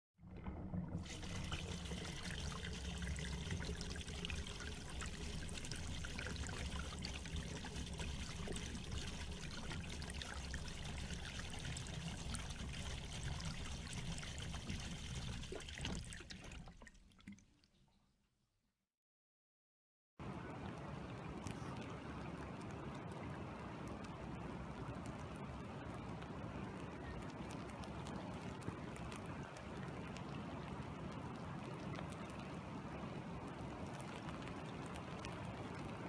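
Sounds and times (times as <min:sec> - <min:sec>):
rain splashing on standing water: 0:00.4 - 0:17.4, 0:20.2 - 0:36.0.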